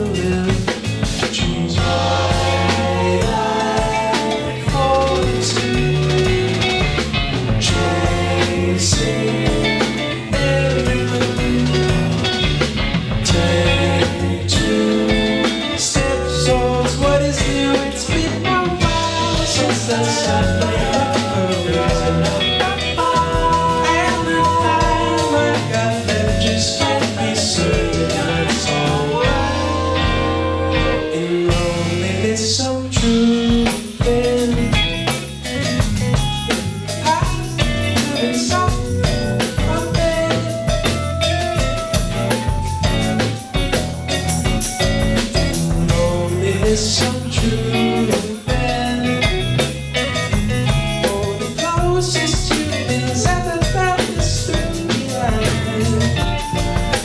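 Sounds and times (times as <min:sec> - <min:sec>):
bass guitar: 0:00.0 - 0:57.0
drum kit: 0:00.0 - 0:57.0
guitar: 0:00.0 - 0:57.0.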